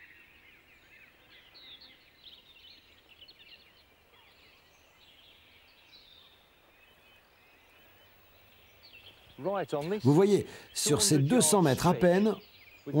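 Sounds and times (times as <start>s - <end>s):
faint birds chirping: 0.0s - 13.0s
low outdoor hiss: 0.0s - 13.0s.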